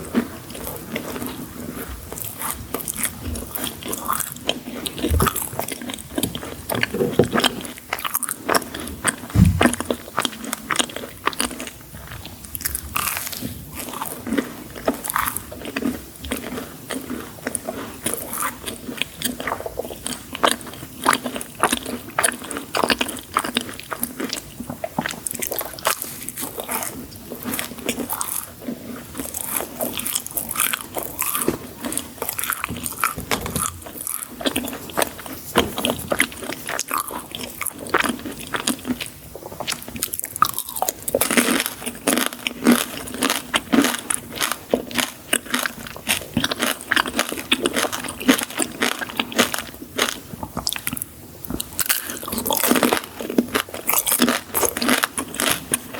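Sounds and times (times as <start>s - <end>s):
chewing crunchy sweets: 0.0s - 55.9s.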